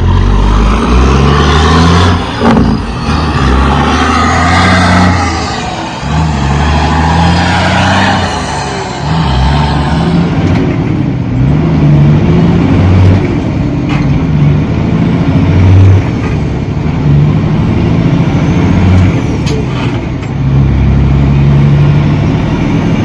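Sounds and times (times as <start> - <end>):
truck diesel engine from cab: 0.0 - 23.0.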